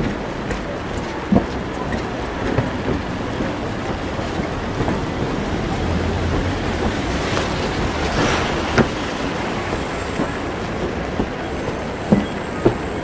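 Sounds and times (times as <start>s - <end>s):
steady rain on street: 0.0s - 13.0s
traffic rumble: 0.0s - 13.0s.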